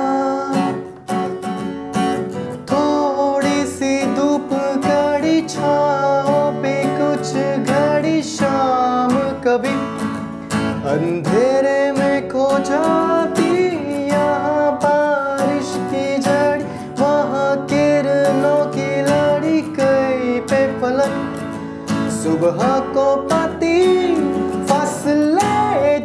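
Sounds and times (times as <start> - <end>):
man singing: 0.0 - 1.0, 2.5 - 26.0
acoustic guitar strumming: 0.0 - 26.0.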